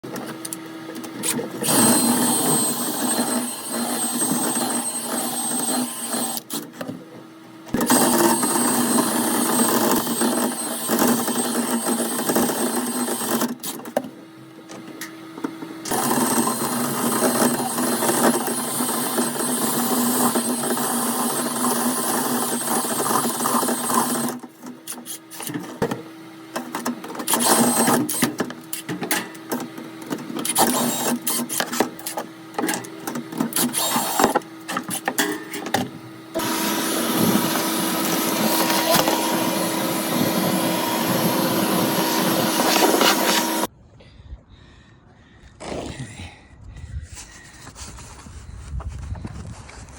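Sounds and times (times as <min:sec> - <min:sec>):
power tool motor rattling: 0:00.1 - 0:07.0, 0:07.6 - 0:43.7.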